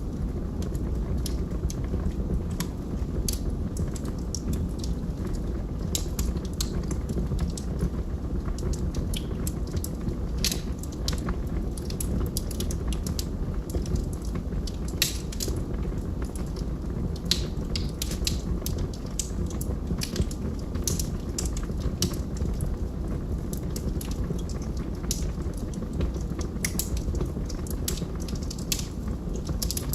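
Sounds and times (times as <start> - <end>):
log fire crackling and popping: 0.0 - 29.9.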